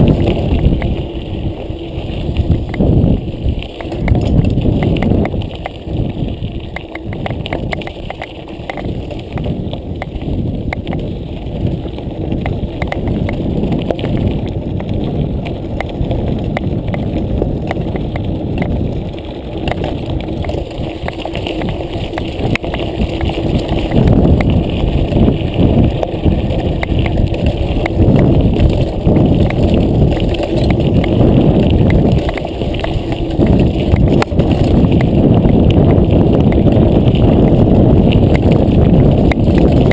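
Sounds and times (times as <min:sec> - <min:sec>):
bike rattling over bumps: 0:00.0 - 0:39.9
bike tyres rumbling on gravel: 0:00.0 - 0:39.9.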